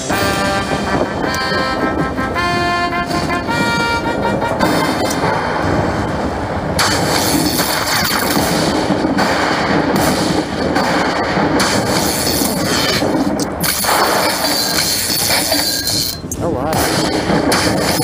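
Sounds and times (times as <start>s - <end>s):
noisy rumbling crackle: 0.0s - 18.0s.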